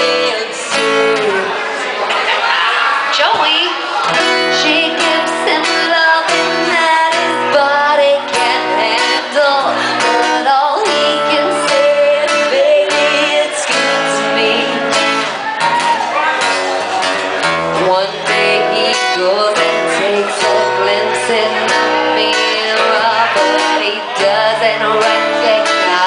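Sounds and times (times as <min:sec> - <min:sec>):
woman singing: 0:00.0 - 0:01.7, 0:03.2 - 0:15.2, 0:17.7 - 0:26.0
acoustic guitar strummed and picked: 0:00.0 - 0:02.6, 0:03.2 - 0:26.0.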